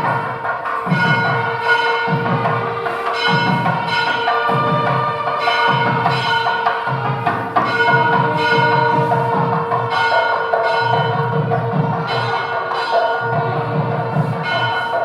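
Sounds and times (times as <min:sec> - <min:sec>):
background music with percussion: 0:00.0 - 0:15.0
low repeating beat: 0:00.0 - 0:15.0.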